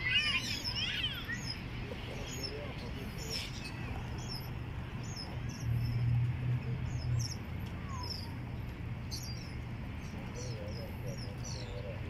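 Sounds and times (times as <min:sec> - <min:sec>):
seabirds chirping: 0:00.0 - 0:12.0.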